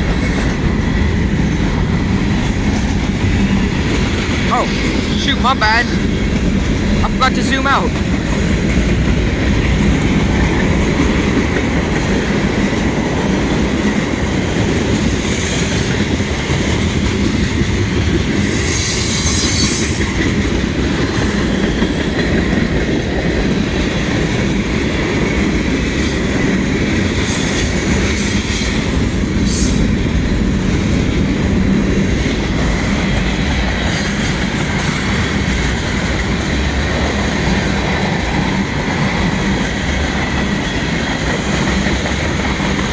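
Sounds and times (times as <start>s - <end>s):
steel wheels on rails: 0.0s - 42.9s.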